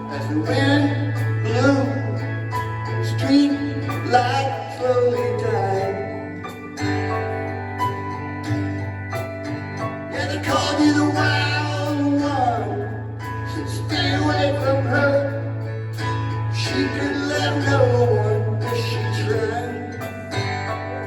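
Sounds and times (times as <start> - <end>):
person singing: 0.0 - 6.8, 10.1 - 21.0
live rock band playing: 0.0 - 21.0.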